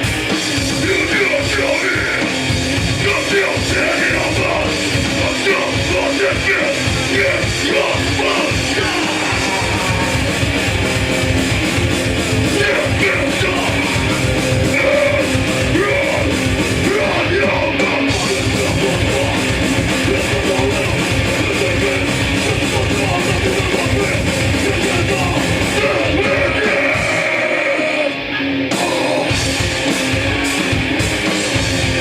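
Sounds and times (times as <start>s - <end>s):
bass guitar: 0.0s - 32.0s
distorted electric guitars: 0.0s - 32.0s
drums: 0.0s - 32.0s.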